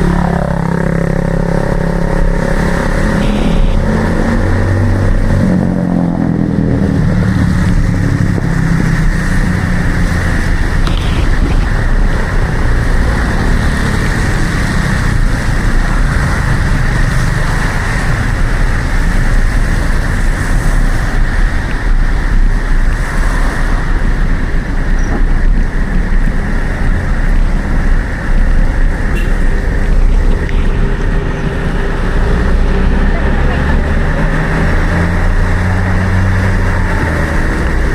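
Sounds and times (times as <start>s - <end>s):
vehicle engine: 0.0s - 37.9s
wind and road noise: 0.0s - 37.9s.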